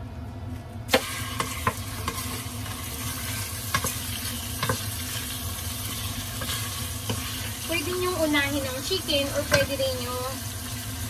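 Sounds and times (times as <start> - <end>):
chicken sizzling in hot oil: 0.9 - 11.0.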